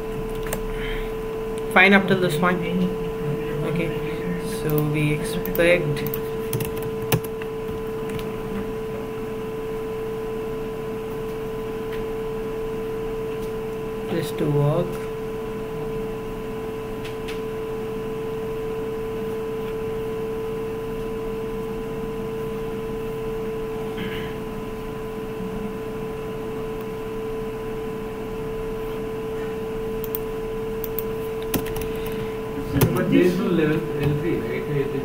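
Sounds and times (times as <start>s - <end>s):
background hum: 0.0s - 35.0s.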